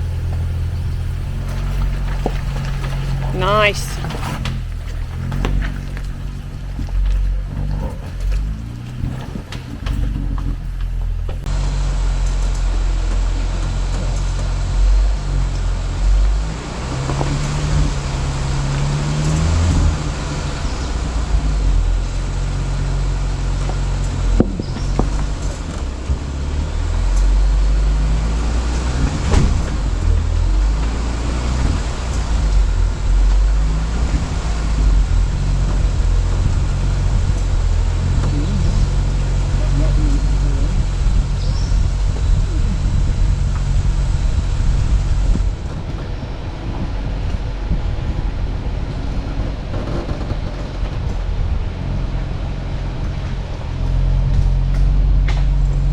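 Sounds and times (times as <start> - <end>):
off-road vehicle engine crawling: 0.0 - 55.9.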